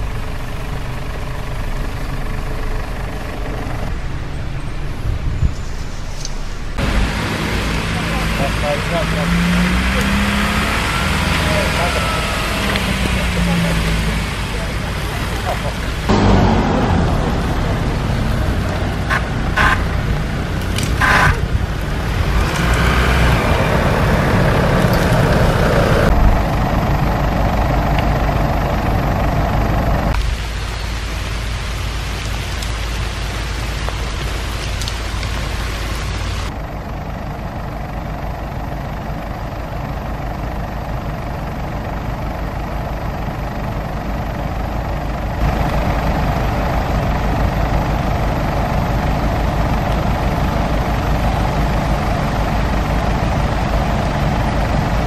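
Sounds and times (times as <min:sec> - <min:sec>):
vehicle engines rumbling: 0:00.0 - 0:55.0.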